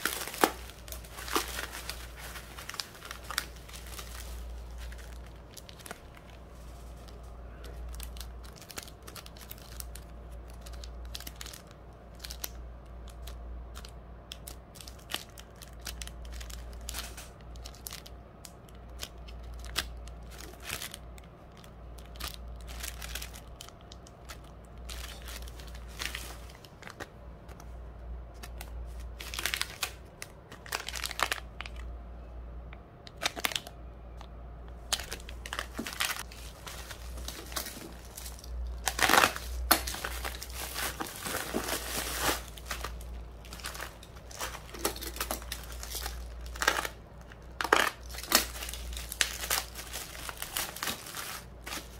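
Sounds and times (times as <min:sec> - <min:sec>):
plastic bags crinkling: 0:00.0 - 0:27.6, 0:28.3 - 0:31.9, 0:33.1 - 0:51.9.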